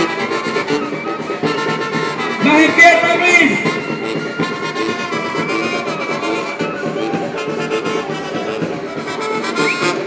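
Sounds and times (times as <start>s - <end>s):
brass band playing sustained notes: 0.0s - 10.0s.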